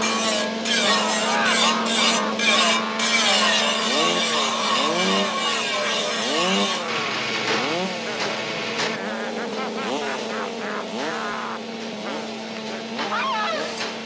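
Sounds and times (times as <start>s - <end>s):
chainsaws revving: 0.0s - 14.0s.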